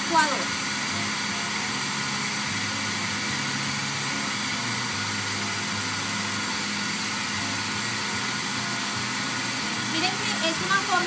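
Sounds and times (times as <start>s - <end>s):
blender motor running: 0.0s - 11.0s.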